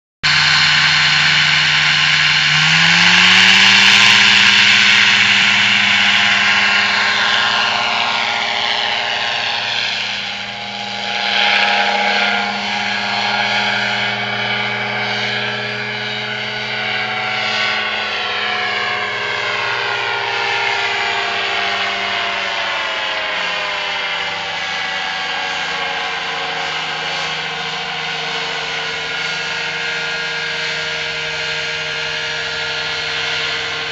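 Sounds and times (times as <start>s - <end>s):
powered parachute engine and propeller: 0.2s - 33.9s.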